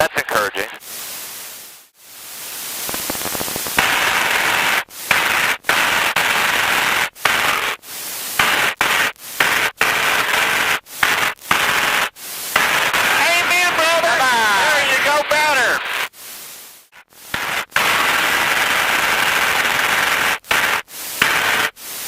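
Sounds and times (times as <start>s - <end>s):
cockpit noise hiss: 0.0s - 22.0s.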